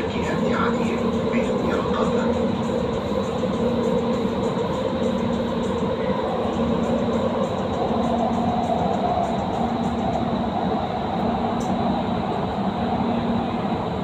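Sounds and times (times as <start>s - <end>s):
constant hum: 0.0s - 14.0s
train rumbling through tunnel: 0.0s - 14.0s.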